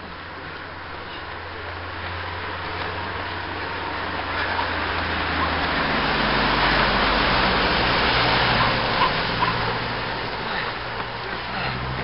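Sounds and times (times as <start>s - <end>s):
car tyres hissing on wet road: 0.2s - 12.0s.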